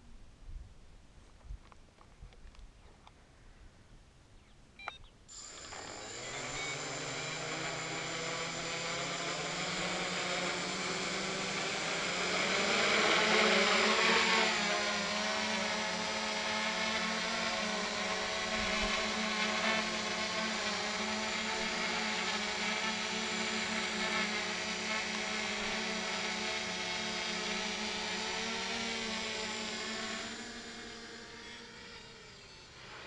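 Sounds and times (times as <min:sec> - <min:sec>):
drone motors whirring: 0:05.3 - 0:33.0.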